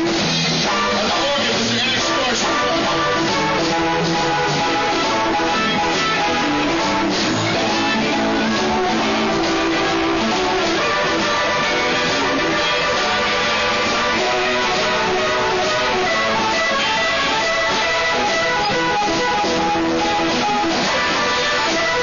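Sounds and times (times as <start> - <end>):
electric guitar: 0.0 - 22.0
live blues band playing: 0.0 - 22.0.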